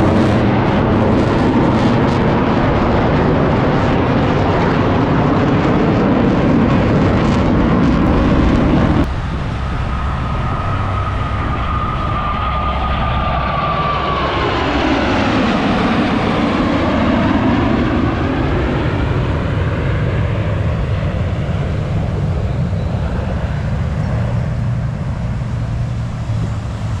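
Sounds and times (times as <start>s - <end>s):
jet aircraft passing: 0.0s - 27.0s.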